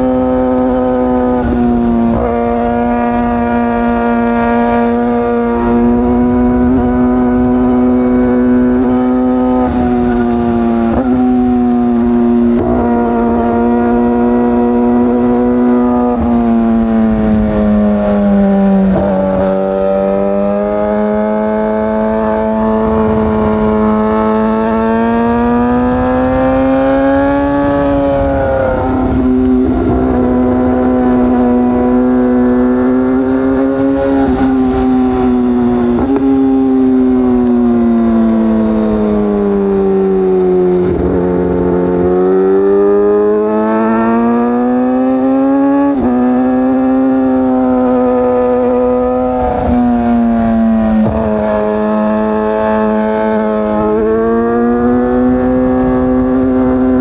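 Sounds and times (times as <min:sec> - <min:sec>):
sport bike engine revving: 0:00.0 - 0:57.0.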